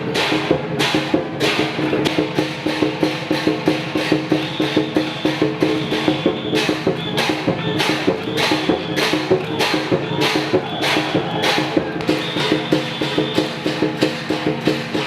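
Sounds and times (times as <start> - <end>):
drum and metal percussion: 0.0 - 15.0.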